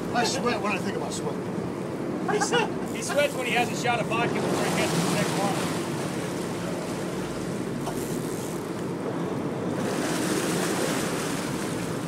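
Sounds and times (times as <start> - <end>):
sea water churning: 0.0 - 12.0.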